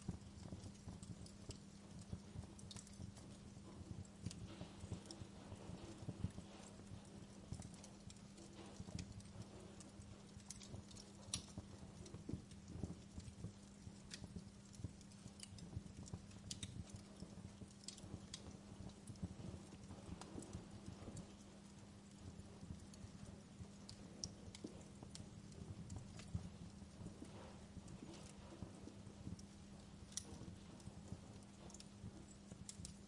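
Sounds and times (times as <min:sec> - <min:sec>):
faint steady hum: 0:00.0 - 0:33.0
low fire rumble: 0:00.0 - 0:33.0
wood fire crackling and popping: 0:00.0 - 0:33.0.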